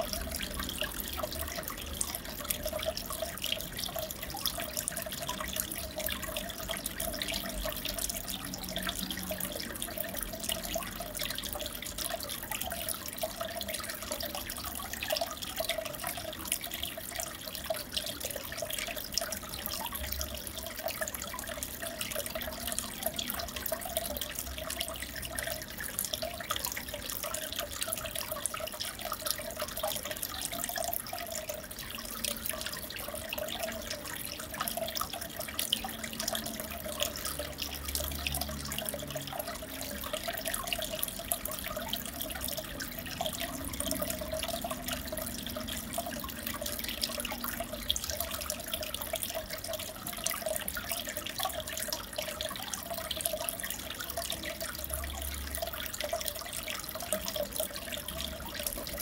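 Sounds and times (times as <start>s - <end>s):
aquarium water bubbling: 0.0s - 59.0s.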